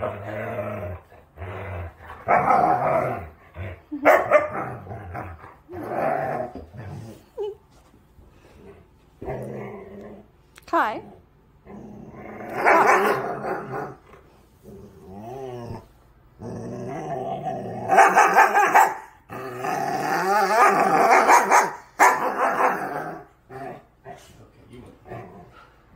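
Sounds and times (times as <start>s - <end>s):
dog play-growling: 0.0s - 21.5s, 22.2s - 25.9s.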